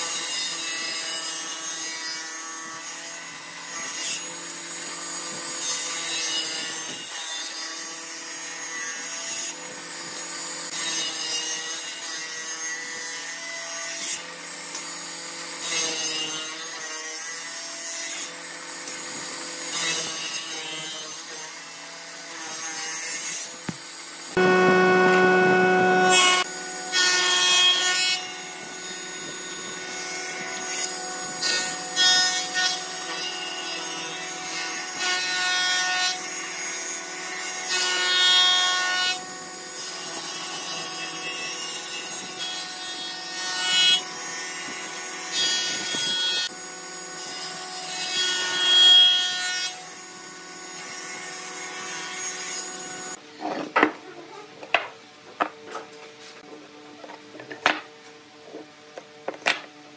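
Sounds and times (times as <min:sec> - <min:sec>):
table saw cutting wood: 0:00.0 - 0:53.2.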